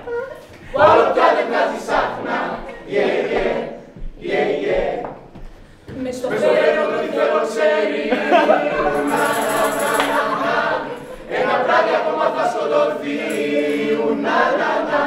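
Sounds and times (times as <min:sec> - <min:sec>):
voices singing in chorus: 0:00.6 - 0:15.0.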